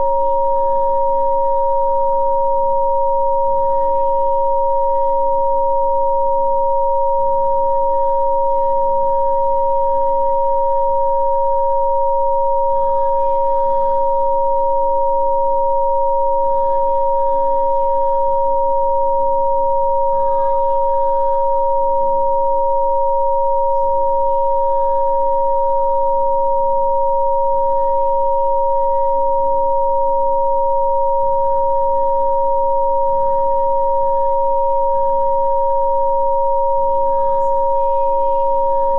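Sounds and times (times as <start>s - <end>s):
steady electronic pure tones: 0.0s - 38.9s.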